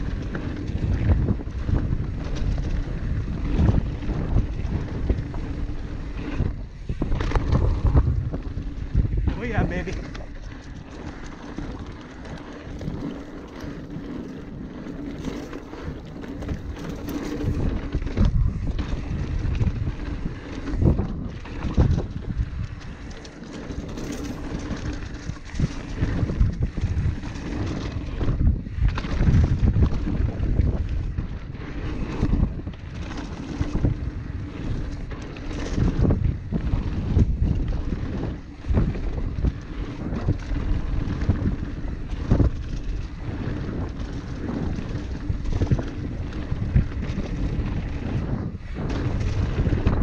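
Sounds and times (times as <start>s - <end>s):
bike clattering over bumps: 0.0s - 50.0s
bike tyres rumbling over dirt: 0.0s - 50.0s
wind buffeting microphone: 0.0s - 50.0s.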